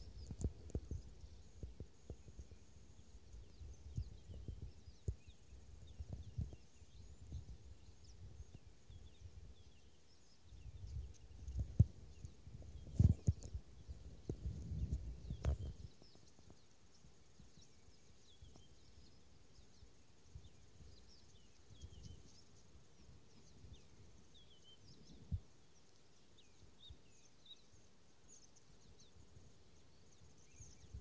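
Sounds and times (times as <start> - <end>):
faint bird chirps: 0.0 - 31.0.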